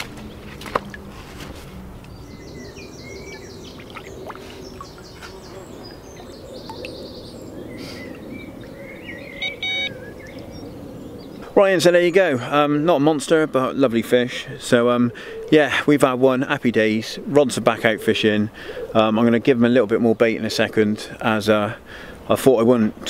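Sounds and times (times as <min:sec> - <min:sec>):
outdoor background noise: 0:00.0 - 0:23.0
songbirds trilling: 0:01.8 - 0:22.3.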